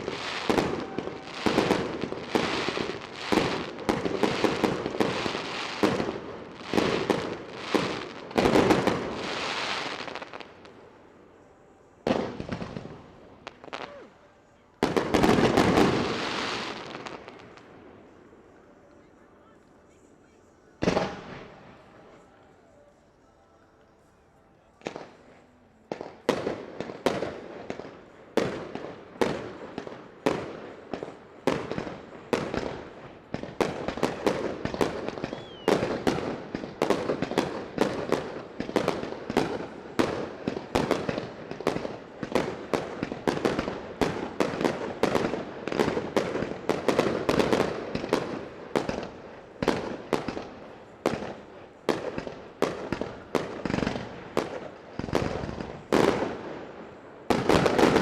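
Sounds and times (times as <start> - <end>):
fireworks bursting: 0.0 - 22.5, 24.8 - 58.0.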